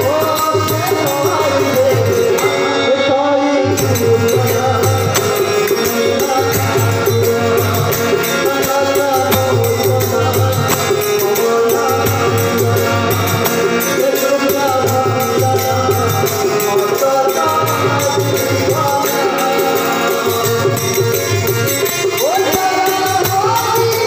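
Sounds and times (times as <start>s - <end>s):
harmonium melody: 0.0s - 24.0s
jingling hand percussion: 0.0s - 24.0s
man singing: 0.0s - 24.0s
tabla and barrel drum: 0.0s - 24.0s.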